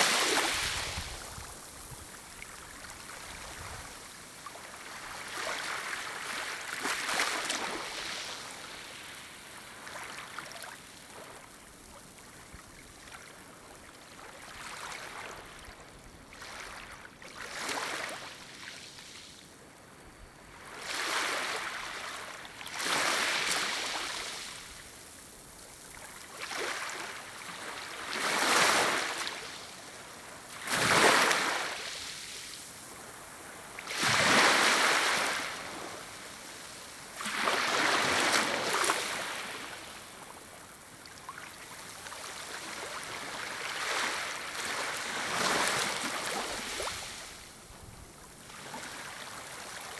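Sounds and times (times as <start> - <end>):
waves lapping on a shore: 0.0 - 49.9.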